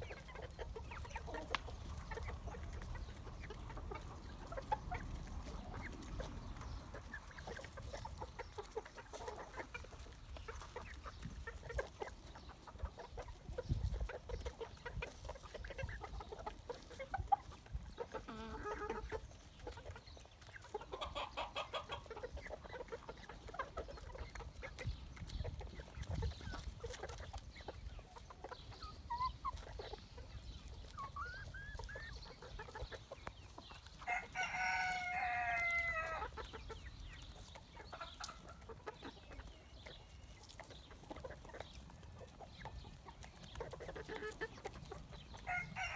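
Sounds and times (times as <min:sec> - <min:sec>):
chicken calls: 0:00.0 - 0:45.9
chickens clucking: 0:00.0 - 0:45.9.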